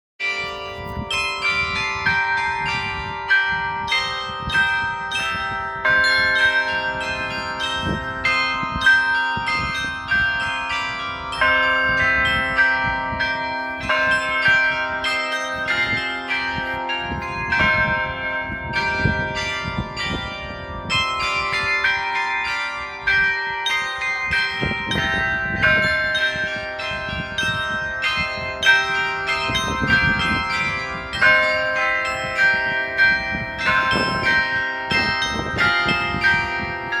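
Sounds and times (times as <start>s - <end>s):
church bells pealing: 0.2s - 37.0s.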